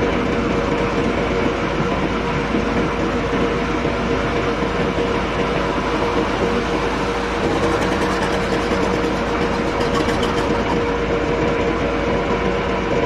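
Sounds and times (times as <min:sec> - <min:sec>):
dump truck diesel engine passing: 0:00.0 - 0:13.0.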